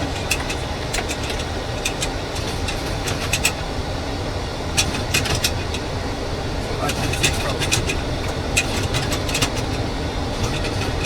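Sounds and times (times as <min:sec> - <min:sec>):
sharp clicks and rattles: 0:00.0 - 0:03.7, 0:04.8 - 0:05.9, 0:06.7 - 0:11.0
rumble of airflow and engines: 0:00.0 - 0:11.0.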